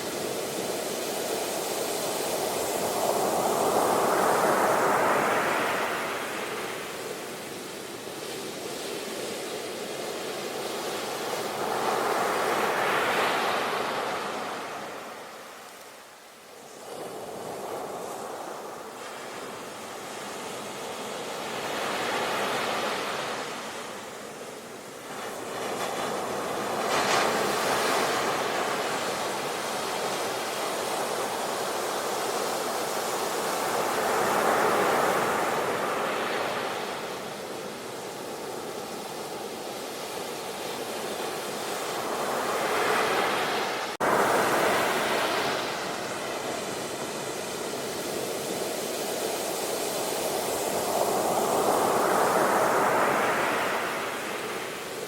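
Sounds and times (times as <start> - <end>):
sea waves washing onto shore: 0.0 - 55.0.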